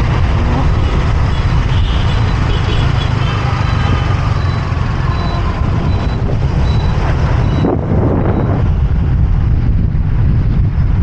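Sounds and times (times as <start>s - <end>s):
motorbike engine and road noise: 0.0s - 11.0s
surrounding traffic: 0.0s - 11.0s.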